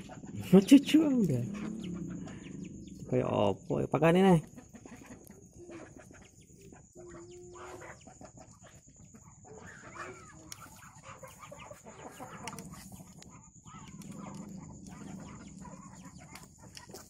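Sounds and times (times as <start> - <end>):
chicken calls: 0.0 - 17.0
chickens clucking: 0.0 - 17.0.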